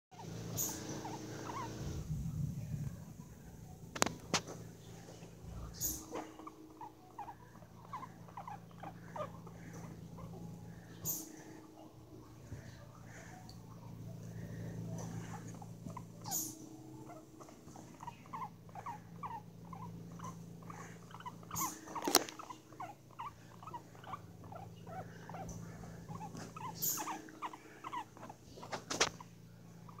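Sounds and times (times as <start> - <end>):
guinea pigs squeaking: 0.1 - 2.1, 2.9 - 30.0.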